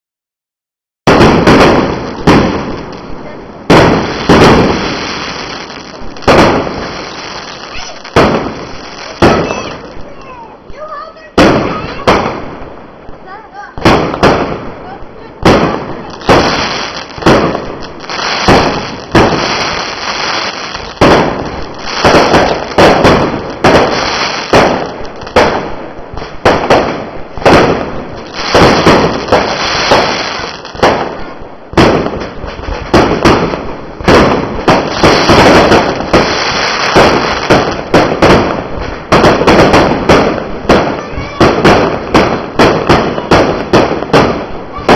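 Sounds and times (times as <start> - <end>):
fireworks banging: 1.1 - 44.9
fireworks crackling and hissing: 1.1 - 44.9.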